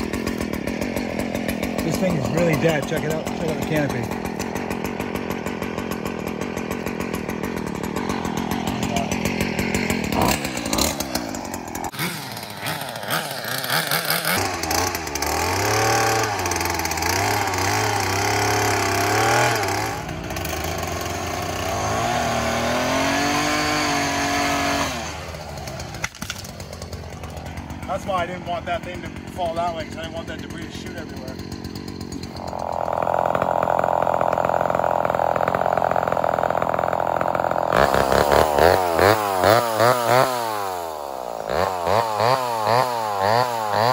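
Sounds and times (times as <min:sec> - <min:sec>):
pole saw engine revving: 0:00.0 - 0:43.9.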